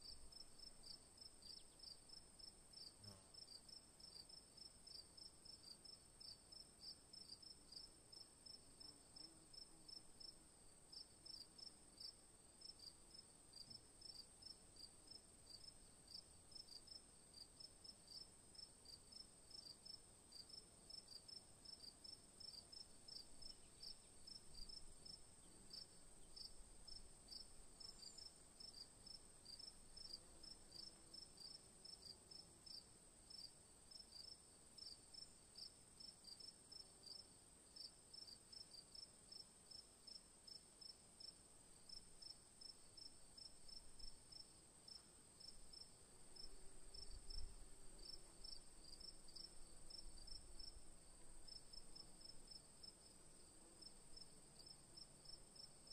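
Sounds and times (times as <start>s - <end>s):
cricket chirping: 0.0s - 55.9s.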